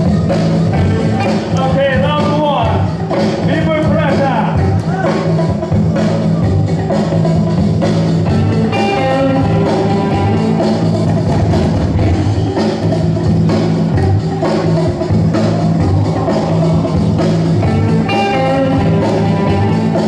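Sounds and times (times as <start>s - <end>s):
funk rock band playing: 0.0s - 20.0s.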